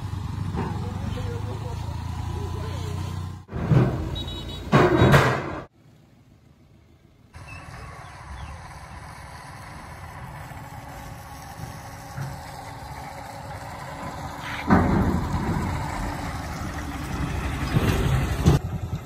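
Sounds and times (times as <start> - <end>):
auto-rickshaw engine running: 0.0 - 4.7, 6.2 - 19.0
truck crossing steel bridge: 0.0 - 19.0.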